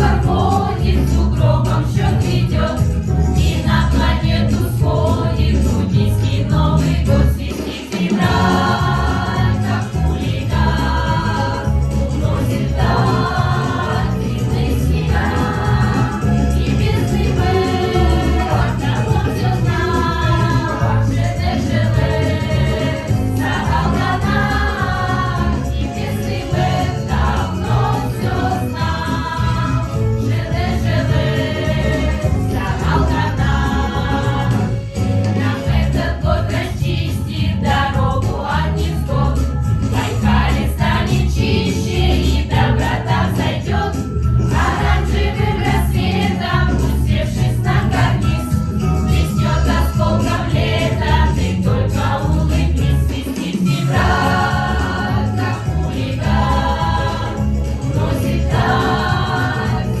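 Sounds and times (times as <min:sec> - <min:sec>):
instrumental backing with bass: 0:00.0 - 1:00.0
vocal ensemble singing in chorus: 0:00.0 - 1:00.0.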